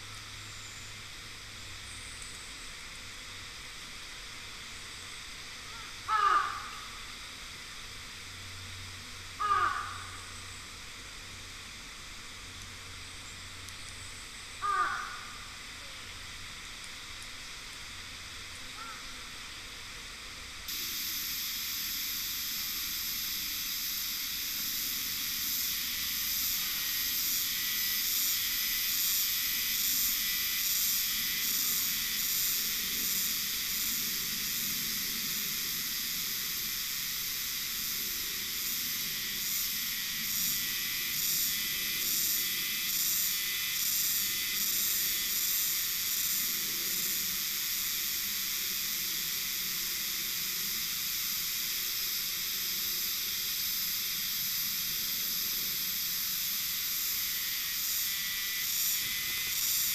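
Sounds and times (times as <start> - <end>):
cicadas chorus pulsing: 0.0 - 59.9.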